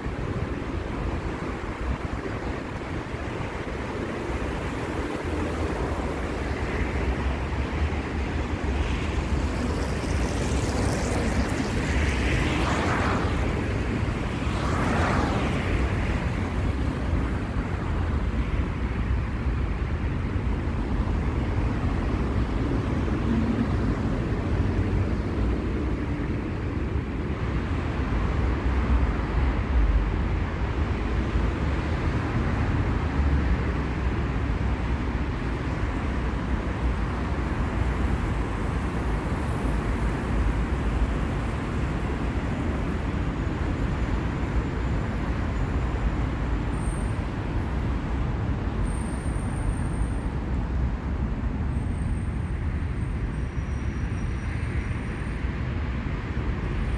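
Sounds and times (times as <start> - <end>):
city street traffic rumble: 0.0 - 56.9
vehicles passing close by: 0.0 - 56.9.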